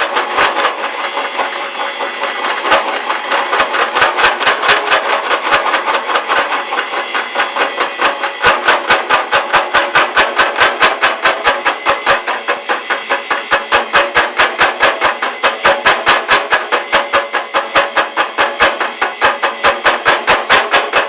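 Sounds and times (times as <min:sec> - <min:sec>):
metal lathe knocking: 0:00.0 - 0:21.0.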